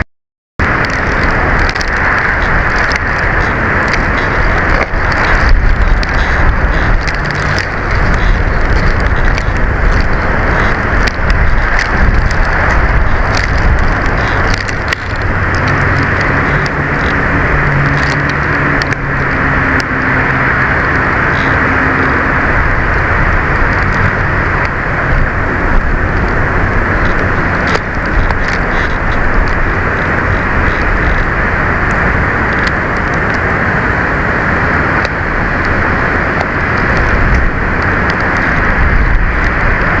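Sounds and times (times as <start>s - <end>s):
crackles and clicks: 0.6s - 40.0s
wind gusts on microphone: 0.6s - 40.0s.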